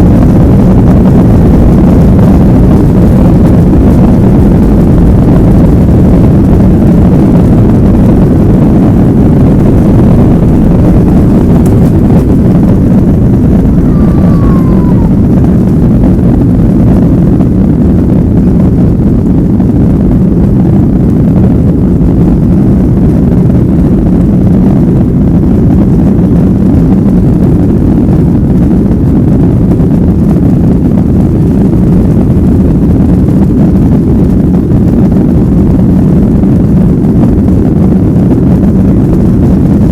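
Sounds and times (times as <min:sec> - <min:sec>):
jet engines from inside cabin: 0:00.0 - 0:39.9.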